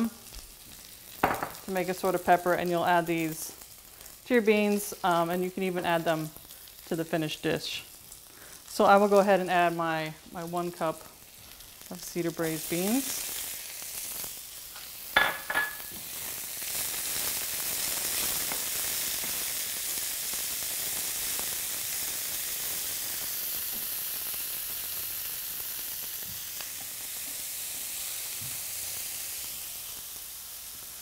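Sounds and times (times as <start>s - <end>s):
vegetables sizzling in skillet: 0.0s - 31.0s.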